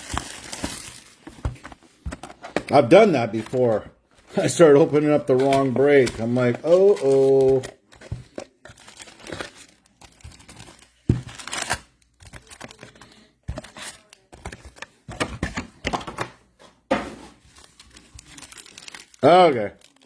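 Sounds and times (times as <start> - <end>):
plastic and cardboard crinkling: 0.0 - 16.4, 17.1 - 20.0.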